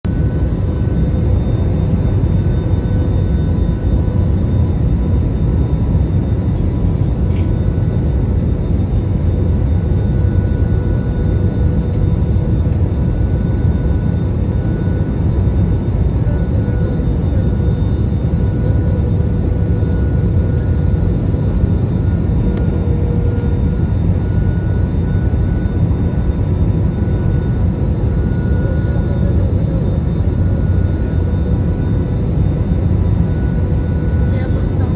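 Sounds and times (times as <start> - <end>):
jet engine and airflow rumble: 0.0 - 34.9
faint steady whines: 0.1 - 34.9.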